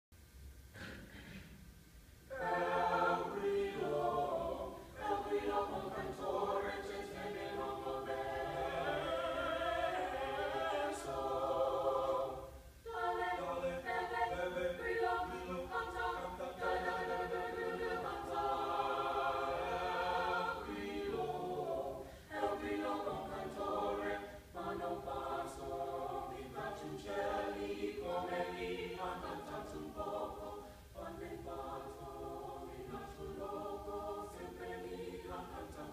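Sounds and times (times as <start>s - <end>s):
chamber choir singing a cappella: 2.3s - 35.9s.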